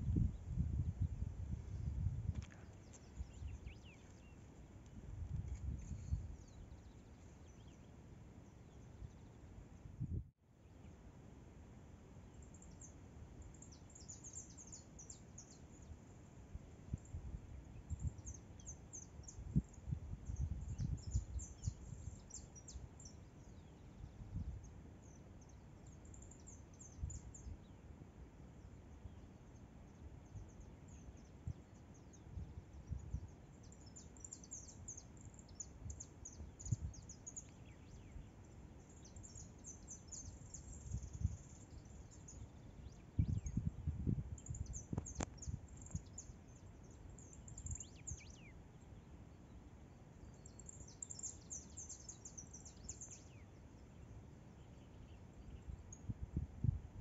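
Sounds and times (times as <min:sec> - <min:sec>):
small birds chirping: 0:00.0 - 0:09.4, 0:12.3 - 0:16.2, 0:16.9 - 0:27.8, 0:28.6 - 0:56.2.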